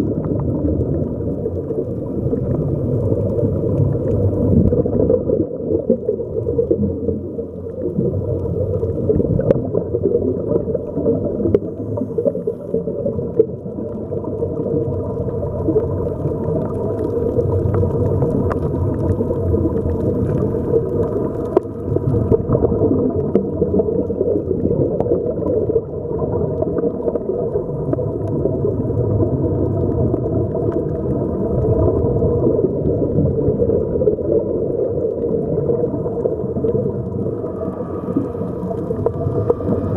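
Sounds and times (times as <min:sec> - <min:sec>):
muffled underwater rushing: 0:00.0 - 0:39.9.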